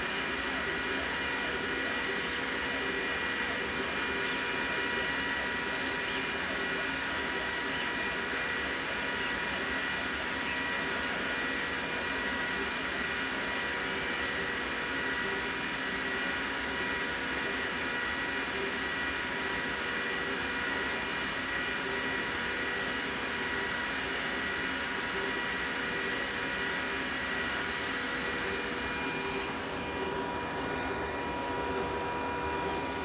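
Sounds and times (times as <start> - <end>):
cooling fans rushing: 0.0 - 33.0
steady whining tones: 0.0 - 33.0.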